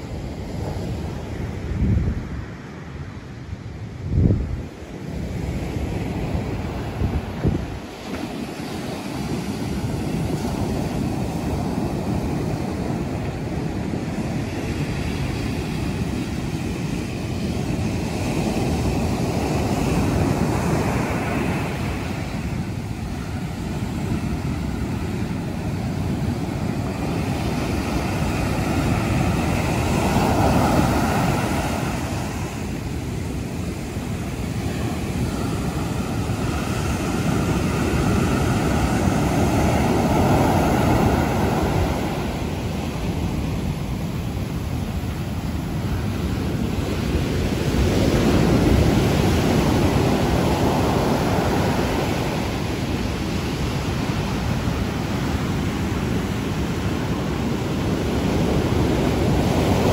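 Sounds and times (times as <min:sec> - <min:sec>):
surf breaking on a beach: 0:00.0 - 0:59.9
wind rumbling on microphone: 0:00.0 - 0:59.9.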